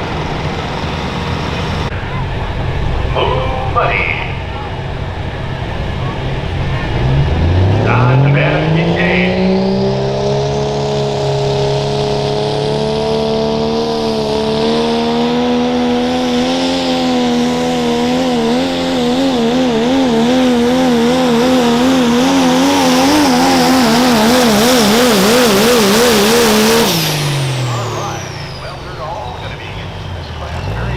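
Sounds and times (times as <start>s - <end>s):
diesel truck engine at high revs: 0.0s - 30.9s.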